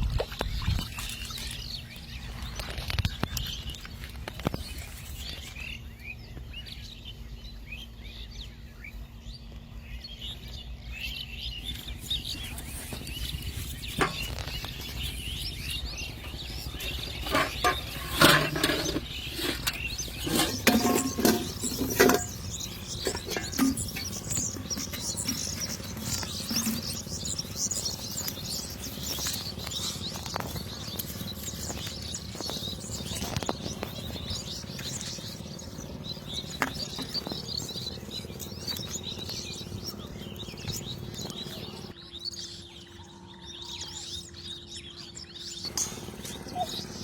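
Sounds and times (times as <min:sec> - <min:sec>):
steady low hum: 0:00.0 - 0:43.1, 0:44.2 - 0:47.0
birds chirping: 0:00.0 - 0:47.0
outdoor background noise: 0:00.0 - 0:47.0.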